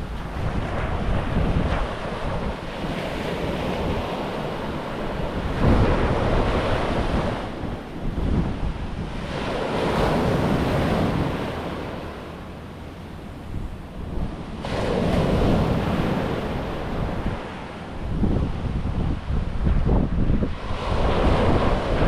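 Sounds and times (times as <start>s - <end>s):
ocean surf washing ashore: 0.0s - 22.0s
wind buffeting microphone: 0.0s - 22.0s.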